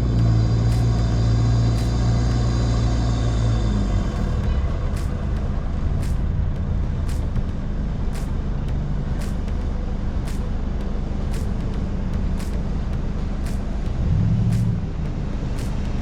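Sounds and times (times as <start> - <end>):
engine and road noise: 0.0 - 16.0.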